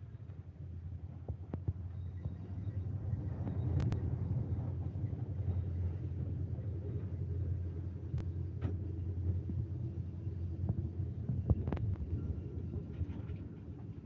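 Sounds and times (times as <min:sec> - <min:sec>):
locomotive rumble inside cab: 0:00.0 - 0:14.0.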